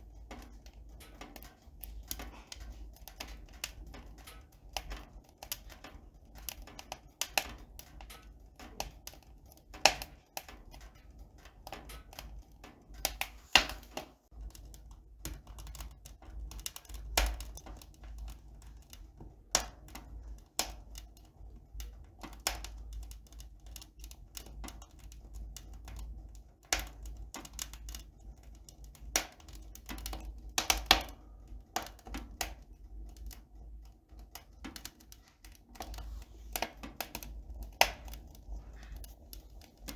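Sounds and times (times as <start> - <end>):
irregular clicking and tapping: 0.0 - 39.9.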